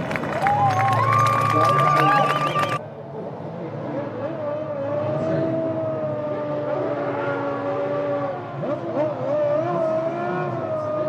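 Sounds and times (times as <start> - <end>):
racing car engines running: 0.0 - 11.0.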